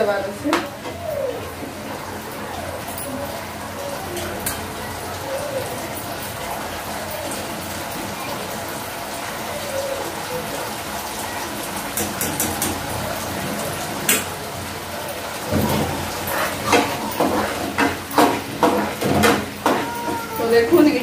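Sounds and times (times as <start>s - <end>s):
food sizzling in a pan: 2.2s - 21.0s.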